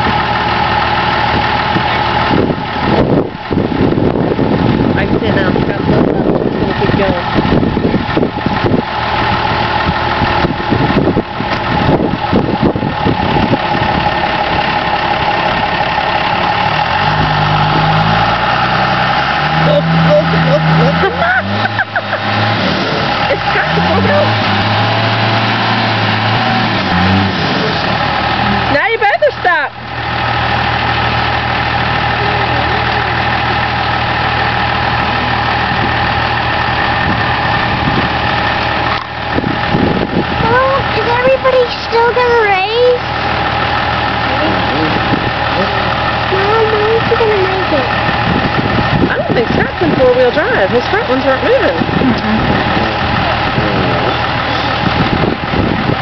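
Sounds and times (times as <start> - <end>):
deeper engine note: 0.0 - 56.0
truck engines running: 0.0 - 56.0.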